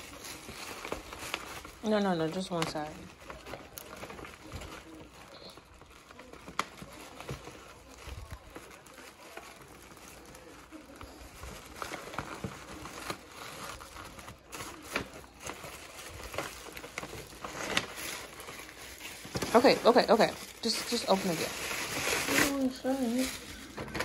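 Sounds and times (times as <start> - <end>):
tissue paper and gift bag crinkling: 0.0 - 24.0.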